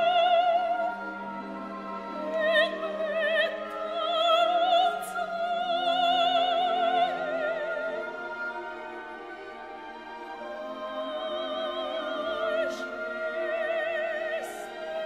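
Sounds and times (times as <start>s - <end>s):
operatic soprano singing: 0.0s - 15.0s
orchestral accompaniment: 0.0s - 15.0s.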